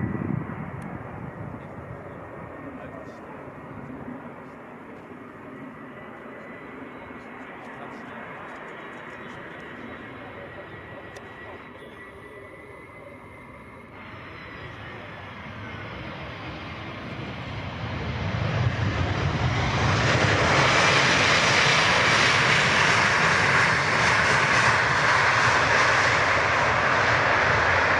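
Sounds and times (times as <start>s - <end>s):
airliner jet engines landing: 0.0s - 27.9s.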